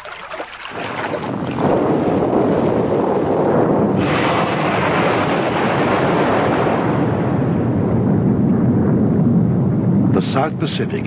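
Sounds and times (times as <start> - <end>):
deep volcanic rumble: 0.7 - 11.0
volcanic eruption blast: 0.7 - 11.0.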